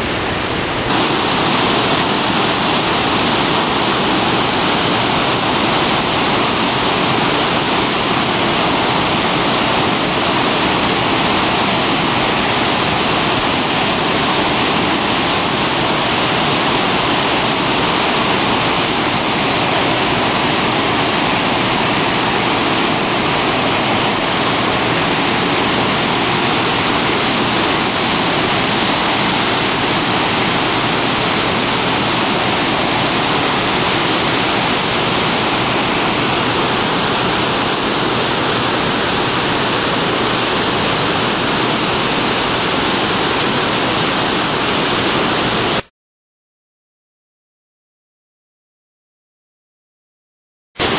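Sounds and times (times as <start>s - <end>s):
rush of whitewater rapids: 0.0s - 45.9s.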